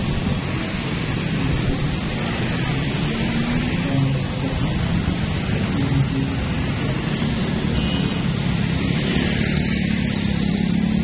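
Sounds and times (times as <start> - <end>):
motorbikes and cars passing: 0.0 - 11.0.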